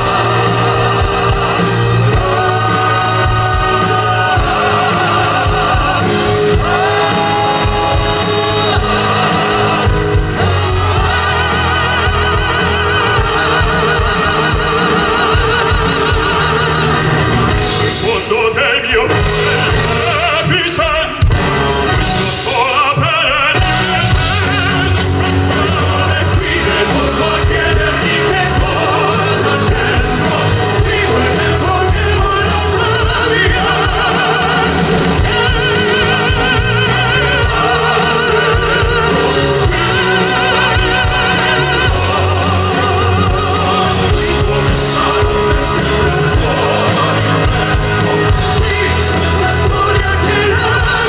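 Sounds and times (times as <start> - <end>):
men singing ballad: 0.0 - 51.0
musical accompaniment: 0.0 - 51.0.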